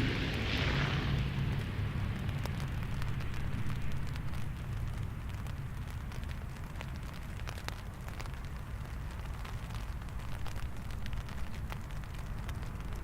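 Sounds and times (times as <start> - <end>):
rain falling: 0.0 - 13.0
sharp raindrop hits: 0.0 - 13.0
steady low rumble: 0.0 - 13.0.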